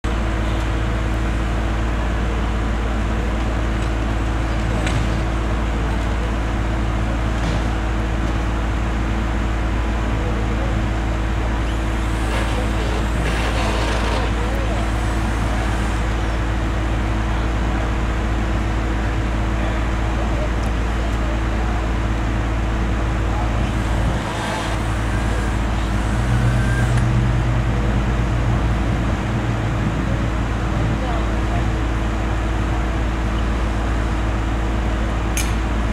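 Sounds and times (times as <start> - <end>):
heavy equipment engine drone: 0.0 - 35.9.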